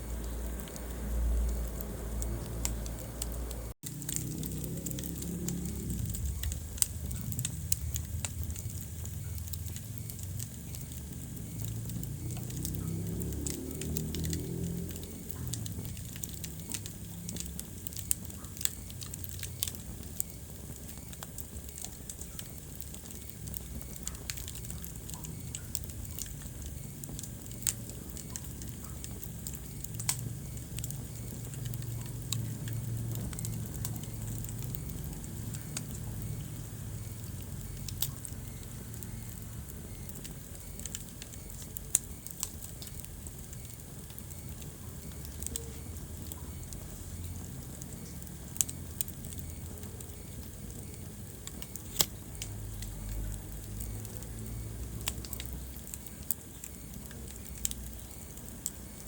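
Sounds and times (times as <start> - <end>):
fire popping: 0.0 - 59.0
wood fire crackling: 0.0 - 59.0.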